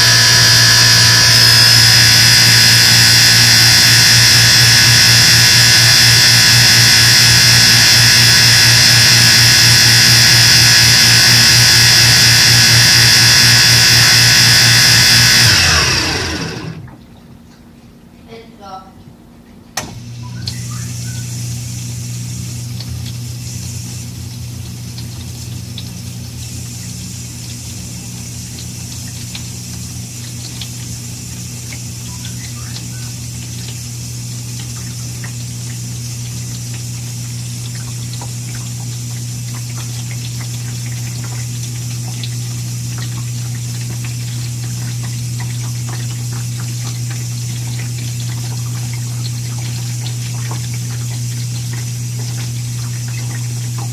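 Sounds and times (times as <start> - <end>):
water spraying inside dishwasher: 0.0 - 17.1, 19.8 - 53.9
dishwasher low buzz: 0.0 - 53.9.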